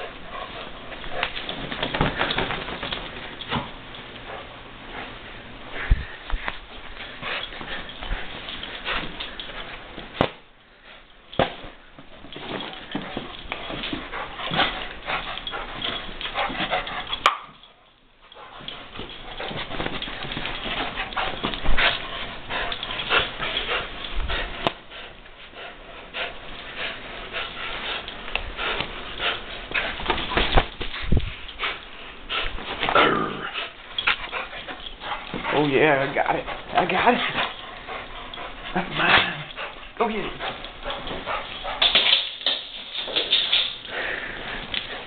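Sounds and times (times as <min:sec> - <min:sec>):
rustles and knocks of scuffle: 0:00.0 - 0:10.4, 0:11.3 - 0:17.3, 0:18.4 - 0:25.5, 0:26.2 - 0:43.9.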